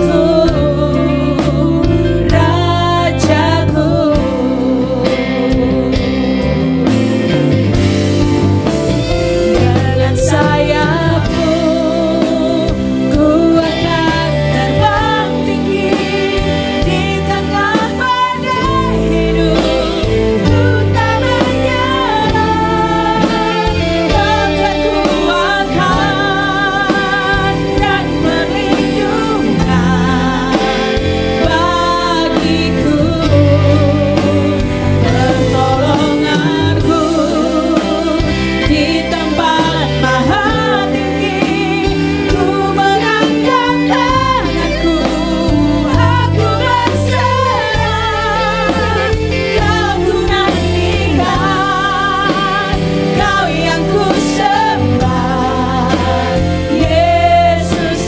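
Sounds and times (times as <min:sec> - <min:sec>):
women singing worship song: 0:00.0 - 0:07.0, 0:07.7 - 0:58.0
instrumental accompaniment with bass: 0:00.0 - 0:58.0.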